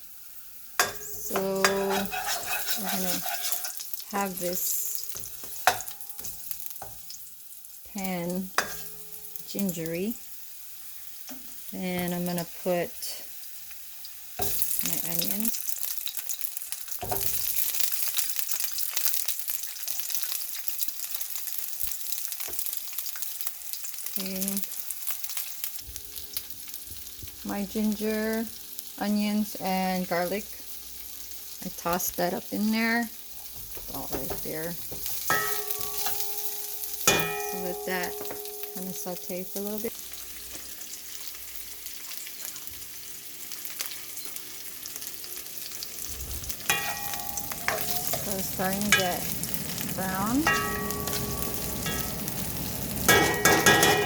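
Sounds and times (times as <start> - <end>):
onions frying in hot oil: 0.0 - 54.0.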